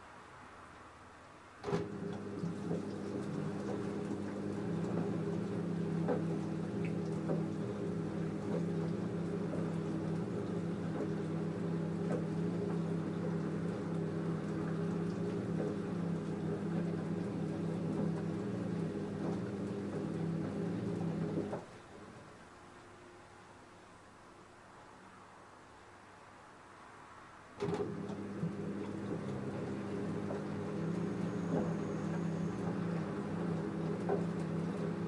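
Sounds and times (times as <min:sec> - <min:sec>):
washing machine motor humming: 0:01.6 - 0:22.6, 0:27.6 - 0:35.0
water and laundry sloshing: 0:01.6 - 0:22.7, 0:27.6 - 0:35.0.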